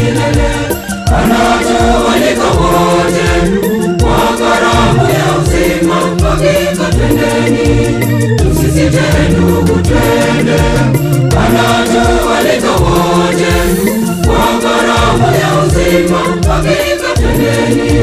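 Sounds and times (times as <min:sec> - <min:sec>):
bass and percussion beat: 0:00.0 - 0:18.0
choir singing a hymn: 0:00.0 - 0:18.0.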